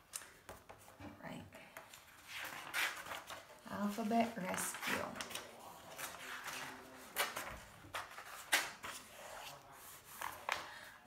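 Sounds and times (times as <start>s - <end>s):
book pages flipping: 0.0s - 1.0s, 1.8s - 10.9s.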